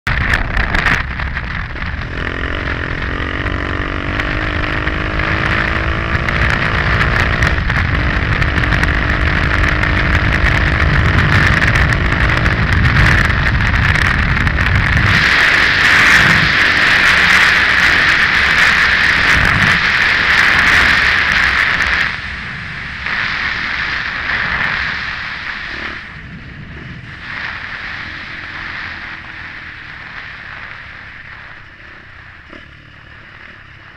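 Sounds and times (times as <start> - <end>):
motorcycle engine under way: 0.0 - 33.9
wind rushing over microphone: 0.0 - 33.9.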